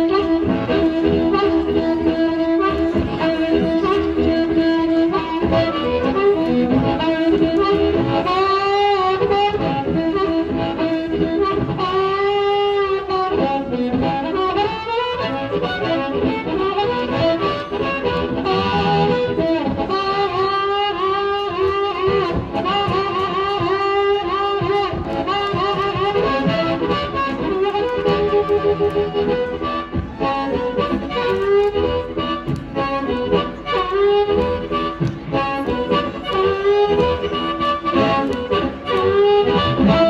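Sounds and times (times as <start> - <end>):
amplified blues harmonica: 0.0 - 40.0.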